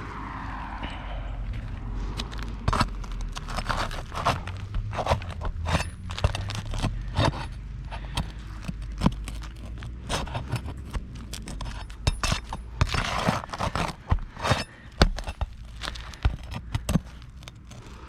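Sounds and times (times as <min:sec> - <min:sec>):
tool scraping roof shingles: 0:02.1 - 0:18.0.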